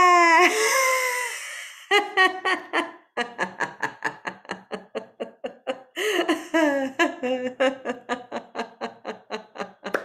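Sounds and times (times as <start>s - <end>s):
person laughing hard: 0.3s - 10.0s.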